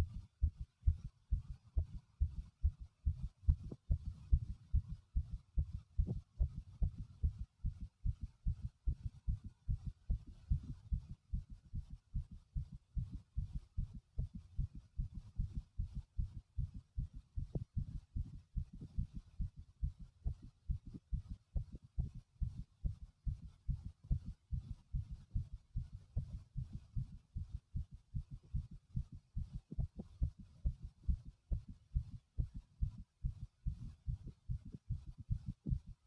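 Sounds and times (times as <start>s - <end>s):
heartbeat thumps: 0.0s - 36.0s.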